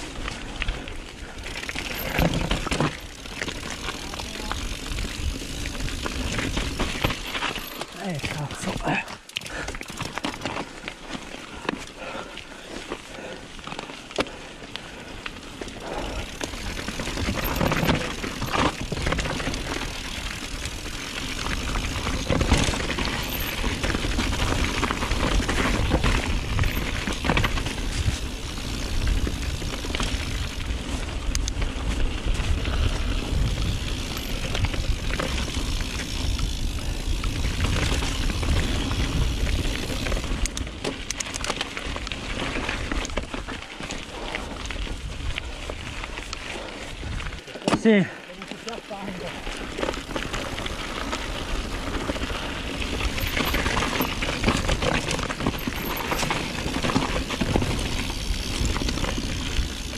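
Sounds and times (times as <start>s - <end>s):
bike rattling and clicking: 0.0s - 59.9s
bike tyre noise: 0.0s - 59.9s.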